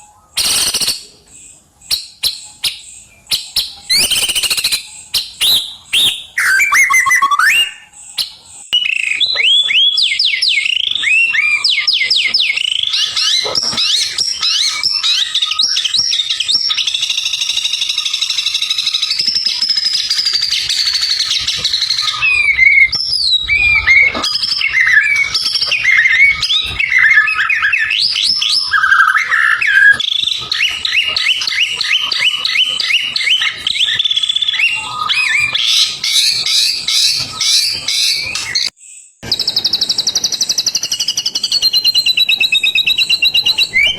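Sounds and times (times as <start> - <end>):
bird singing whistles and trills: 0.0 - 43.9.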